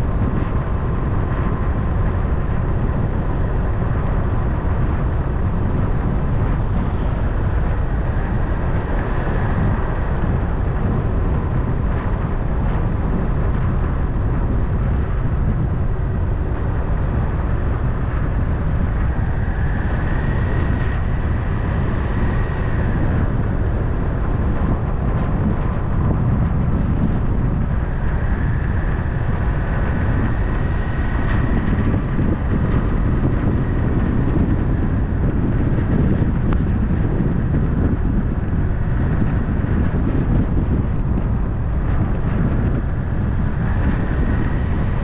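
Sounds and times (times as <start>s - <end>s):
car tyre and wind rumble: 0.0s - 45.0s.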